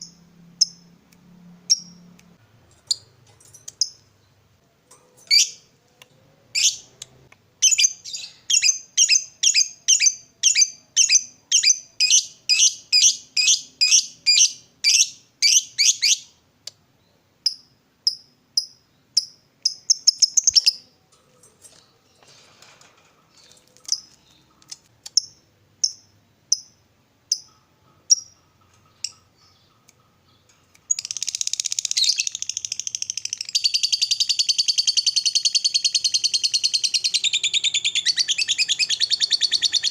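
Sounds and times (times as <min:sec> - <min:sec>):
lovebird chirping: 0:00.0 - 0:04.4, 0:05.2 - 0:05.8, 0:06.5 - 0:16.4, 0:17.0 - 0:21.1, 0:23.4 - 0:39.9.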